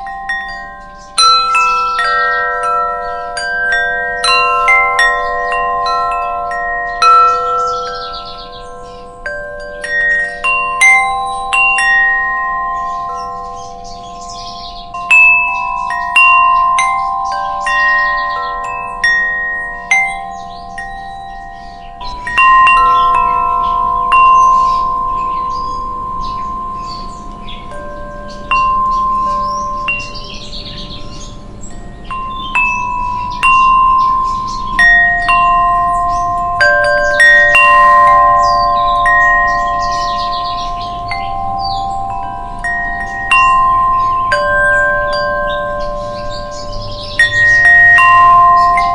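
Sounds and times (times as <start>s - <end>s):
wind chimes ringing: 0.0s - 48.9s.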